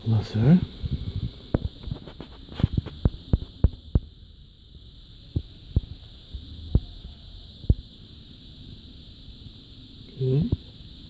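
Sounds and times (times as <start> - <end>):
steady faint hum: 0.0 - 11.0.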